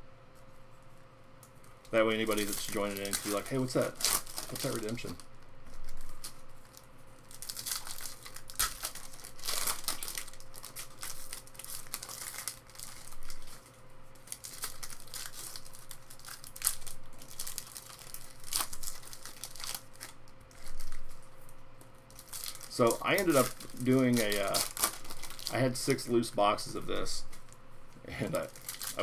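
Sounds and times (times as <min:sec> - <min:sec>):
faint steady hum: 0:00.0 - 0:29.0
foil wrapper crinkling and tearing: 0:01.6 - 0:29.0.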